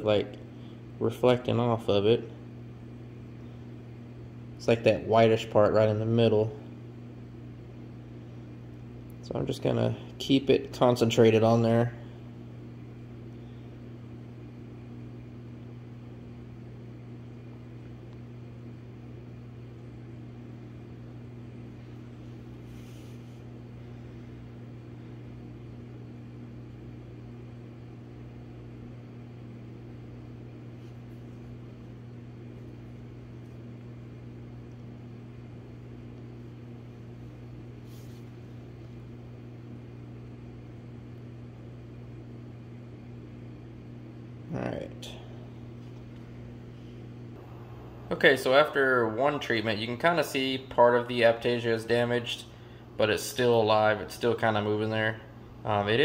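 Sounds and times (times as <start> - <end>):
aquarium pump hum: 0.0 - 56.0.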